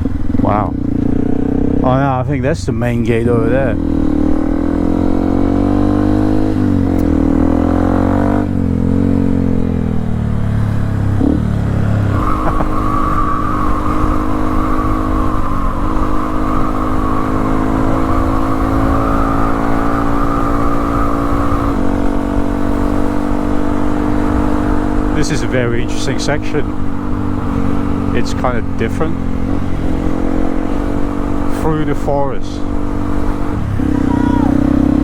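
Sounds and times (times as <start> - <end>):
motorcycle engine riding: 0.0 - 35.0.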